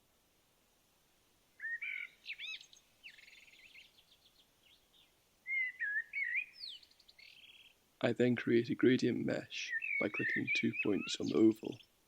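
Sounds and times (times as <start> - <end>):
songbird singing faintly: 1.4 - 12.0.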